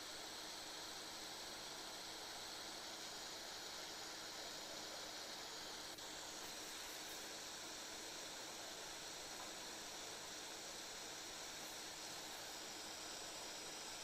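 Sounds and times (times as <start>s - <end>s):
room noise hiss: 0.0s - 14.0s.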